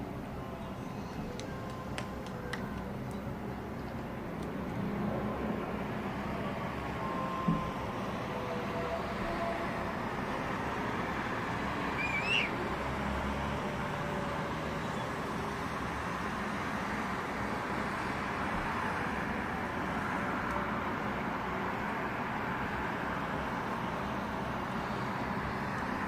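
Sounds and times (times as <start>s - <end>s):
city traffic noise: 0.0s - 26.0s.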